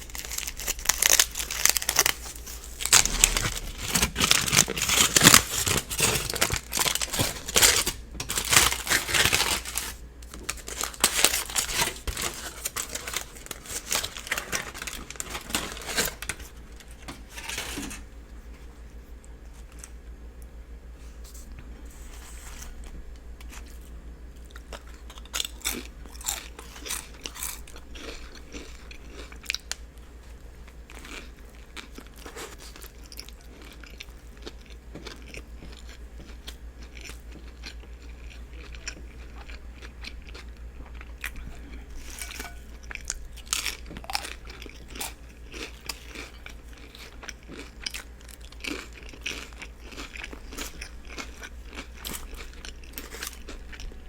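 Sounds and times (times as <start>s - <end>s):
crunchy bites and wet chewing: 0.0s - 17.5s, 22.7s - 54.0s
steady low hum: 0.0s - 54.0s.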